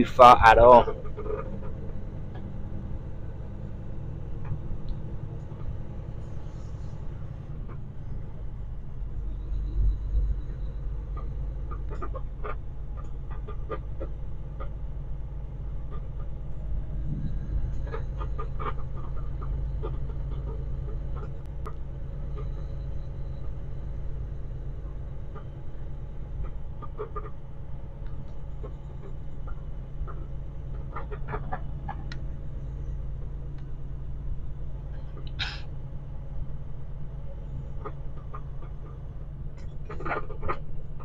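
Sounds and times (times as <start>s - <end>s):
truck engine drone: 0.0s - 41.0s.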